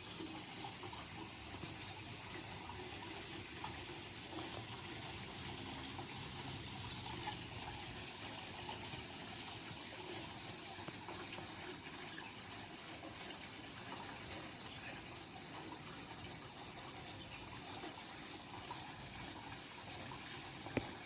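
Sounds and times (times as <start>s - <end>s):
waterfall splashing into pond: 0.0s - 21.0s.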